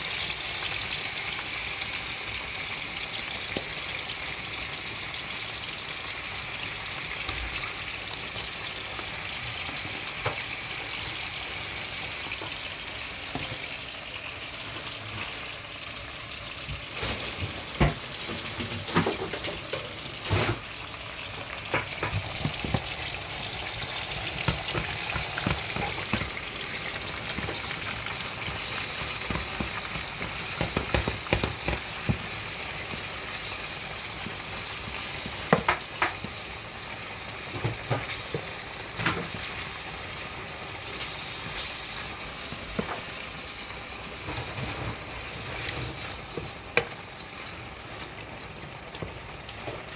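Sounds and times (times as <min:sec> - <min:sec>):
meat sizzling in a pan: 0:00.0 - 0:49.9.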